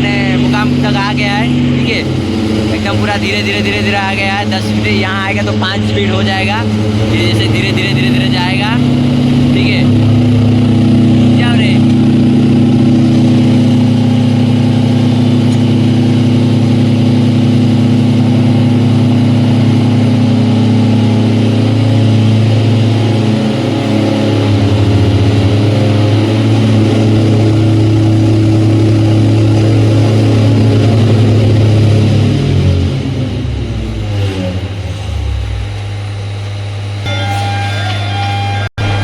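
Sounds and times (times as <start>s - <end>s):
heavy electric machinery humming: 0.0s - 39.0s.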